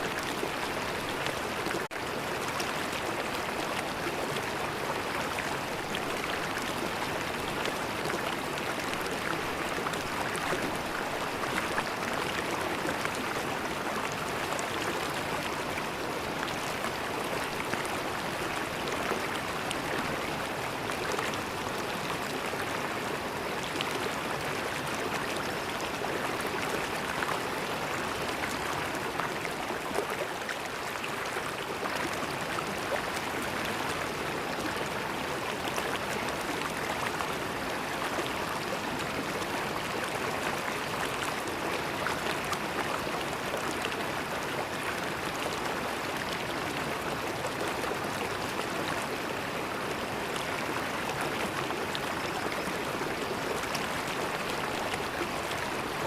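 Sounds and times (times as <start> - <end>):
river water gurgling over rocks: 0.0 - 56.0.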